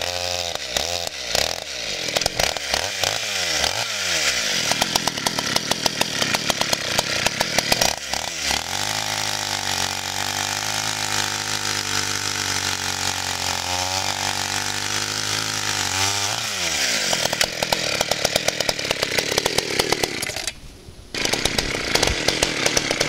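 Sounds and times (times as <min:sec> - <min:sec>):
chainsaw revving and idling: 0:00.0 - 0:23.0.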